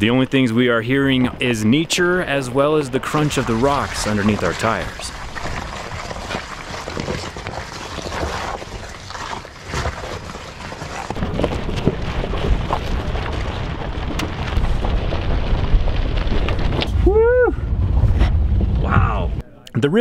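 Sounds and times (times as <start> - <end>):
tires crunching on gravel: 0.0 - 19.3
low rumble: 0.8 - 19.5.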